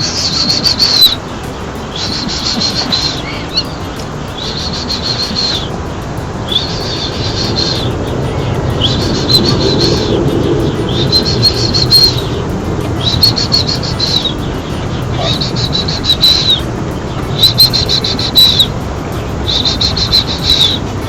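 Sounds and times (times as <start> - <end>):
bird trilled chirping: 0.0 - 21.0.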